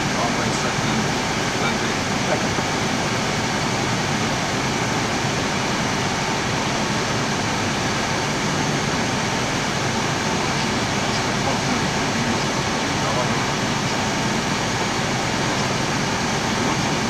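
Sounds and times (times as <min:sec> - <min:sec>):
air rushing past cockpit: 0:00.0 - 0:17.0
ventilation system hiss: 0:00.0 - 0:17.0.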